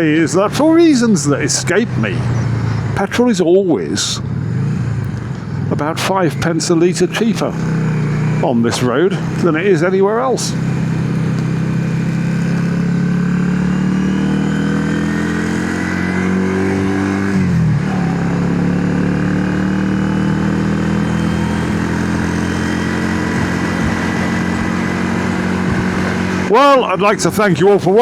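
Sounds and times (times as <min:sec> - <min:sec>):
motorcycle engine pulling: 0:04.3 - 0:28.0.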